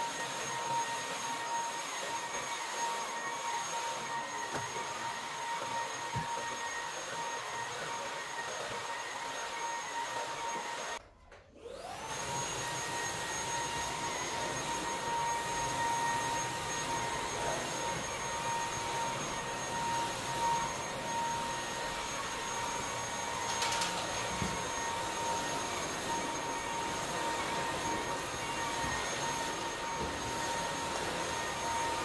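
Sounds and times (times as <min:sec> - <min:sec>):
stick vacuum cleaner running: 0:00.0 - 0:11.0, 0:11.6 - 0:32.0.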